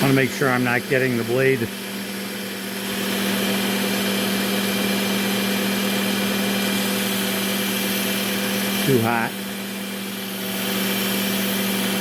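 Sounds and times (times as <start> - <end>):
belt sharpener motor humming: 0.0 - 12.0.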